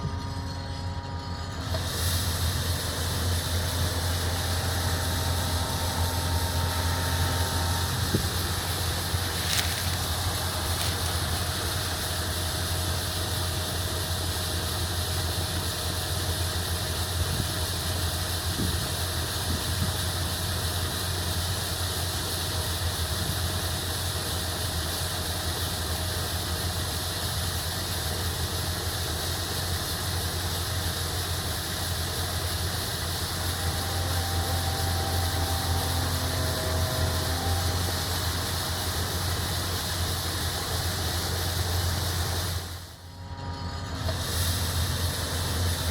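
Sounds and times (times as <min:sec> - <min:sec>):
machinery engine droning: 0:00.0 - 0:45.9.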